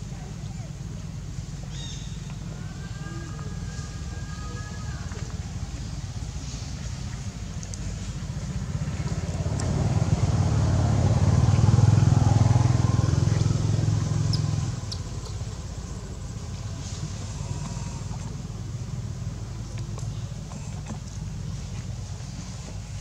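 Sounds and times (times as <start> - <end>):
vehicle engine passing by: 2.2 - 23.0.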